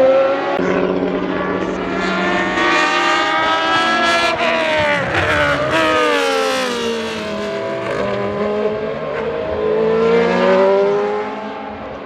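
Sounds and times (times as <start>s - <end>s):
race car engine at speed: 0.0s - 12.0s.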